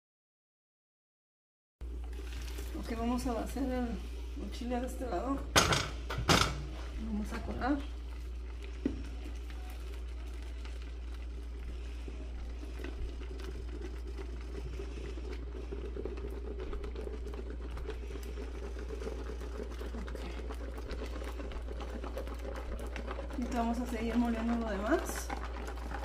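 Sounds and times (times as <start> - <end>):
sauce sizzling and bubbling in pan: 1.8 - 26.0.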